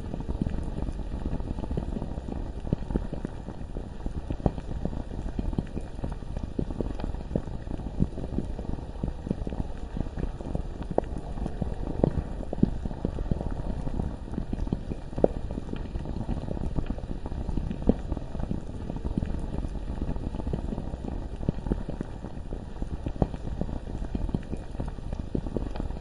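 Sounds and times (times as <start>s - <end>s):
lava bubbling and popping: 0.0s - 26.0s.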